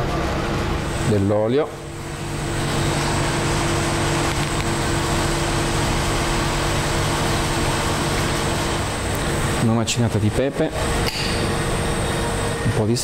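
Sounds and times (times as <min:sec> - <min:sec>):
kitchen machinery hum: 0:00.0 - 0:13.0.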